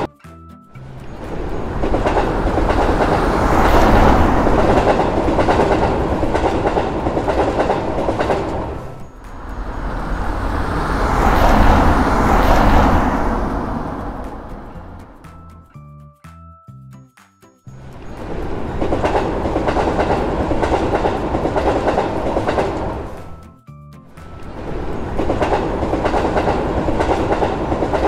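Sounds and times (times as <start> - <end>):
train wheels clattering on rails: 0.8 - 15.4, 17.8 - 23.4, 24.2 - 28.0.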